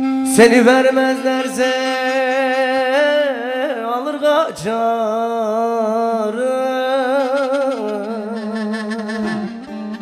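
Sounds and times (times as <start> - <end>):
instrumental backing: 0.0 - 10.0
man singing long wavering note: 0.0 - 10.0.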